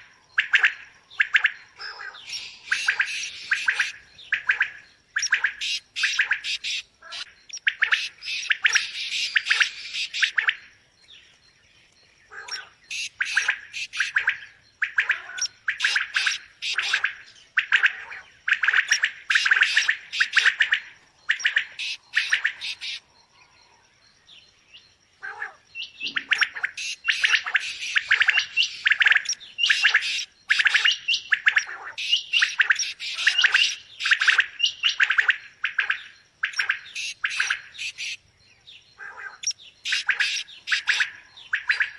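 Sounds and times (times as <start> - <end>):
quail chirping: 0.4 - 10.6, 12.3 - 23.0, 25.8 - 38.2, 39.0 - 41.9.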